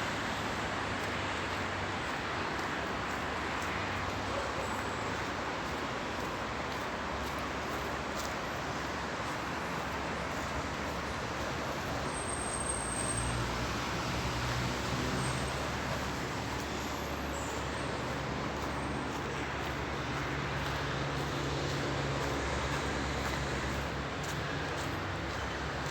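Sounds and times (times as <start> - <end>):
distant road traffic: 0.0 - 25.9.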